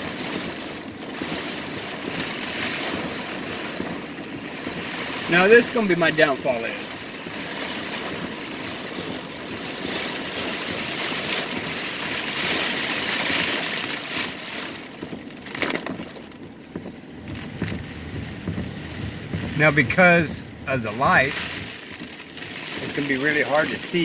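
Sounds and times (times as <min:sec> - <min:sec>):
heavy rain on a car roof: 0:00.0 - 0:24.0.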